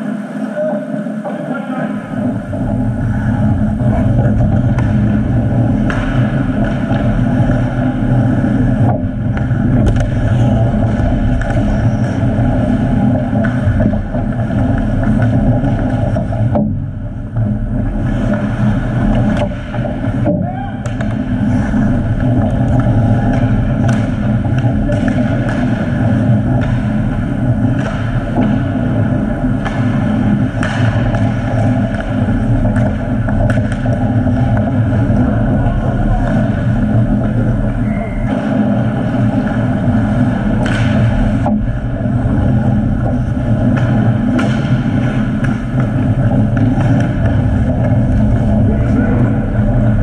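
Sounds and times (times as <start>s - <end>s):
low rumble: 1.8s - 50.0s
sticks and puck clicking on ice: 4.1s - 16.7s, 17.4s - 50.0s.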